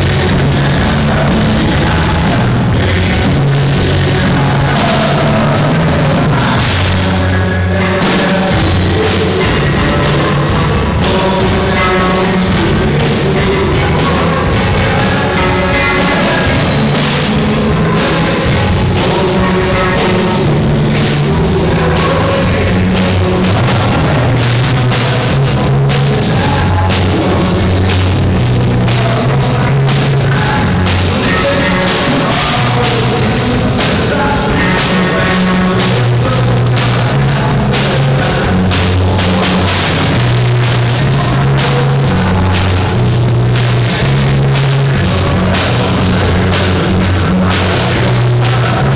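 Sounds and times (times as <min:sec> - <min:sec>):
bass line: 0:00.0 - 0:48.9
rock band playing: 0:00.0 - 0:48.9.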